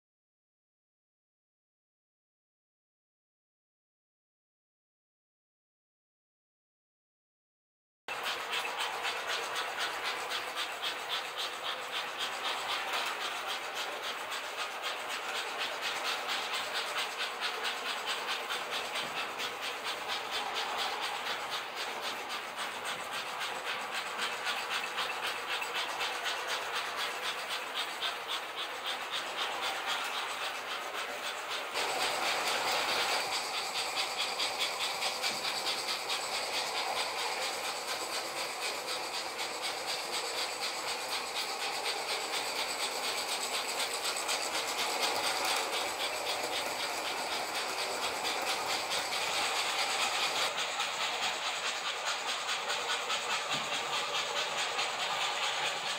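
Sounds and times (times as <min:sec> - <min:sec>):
toy trains clattering on track: 0:08.1 - 0:55.9.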